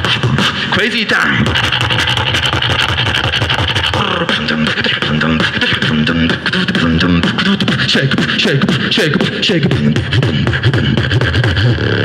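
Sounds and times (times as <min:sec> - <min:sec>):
beatboxing through a microphone: 0:00.0 - 0:12.0.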